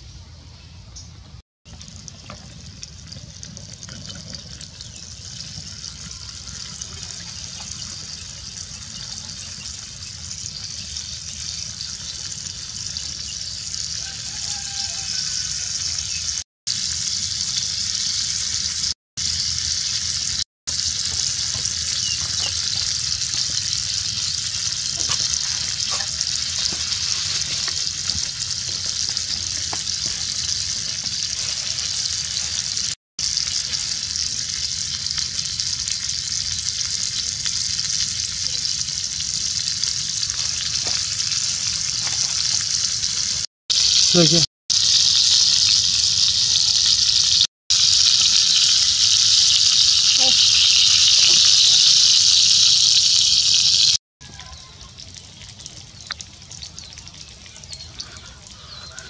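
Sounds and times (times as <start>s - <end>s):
fish frying in hot oil: 1.7s - 59.0s.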